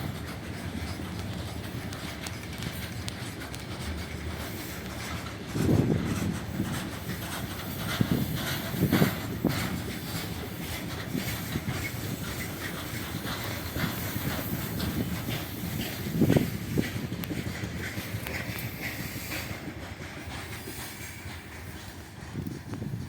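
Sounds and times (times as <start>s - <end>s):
freight train wagons rumbling: 0.0s - 23.0s.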